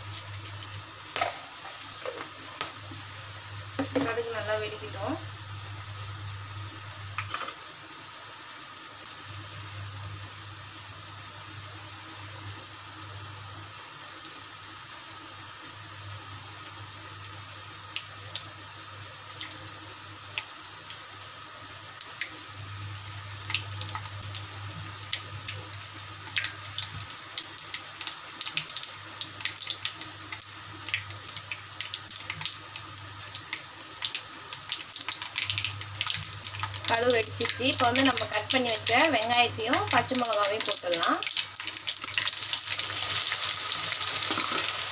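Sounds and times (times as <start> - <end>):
hot oil sizzling: 0.0 - 44.9.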